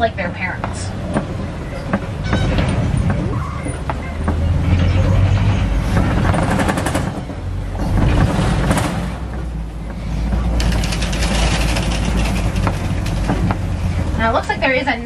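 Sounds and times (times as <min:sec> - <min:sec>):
truck engine and road rumble: 0:00.0 - 0:15.0
vehicle rattling over bumps: 0:00.0 - 0:15.0.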